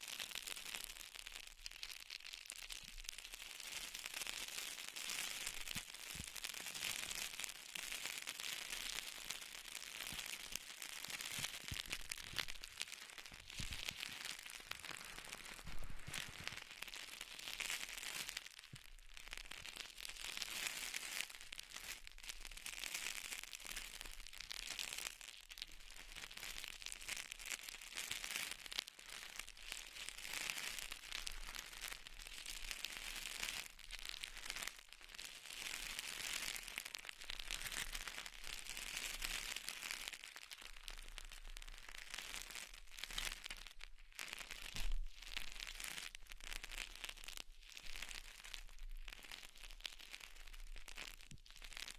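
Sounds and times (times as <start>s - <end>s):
crisp crackling and rustling: 0.0s - 51.9s.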